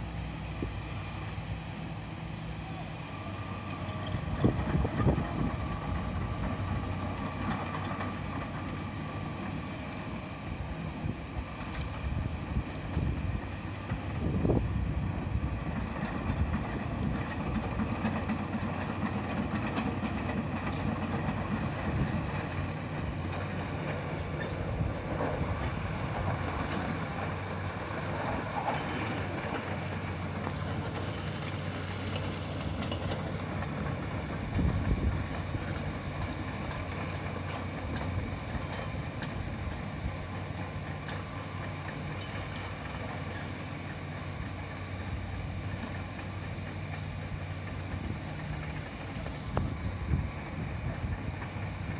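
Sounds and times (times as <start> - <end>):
distant excavator diesel engine: 0.0 - 51.9.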